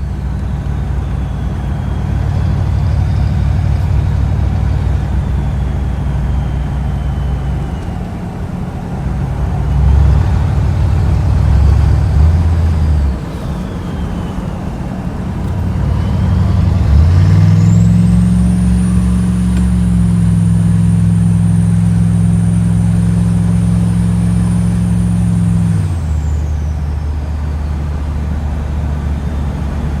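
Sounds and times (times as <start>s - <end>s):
turbo whistle: 0.0s - 27.8s
diesel engine revving: 0.0s - 30.0s.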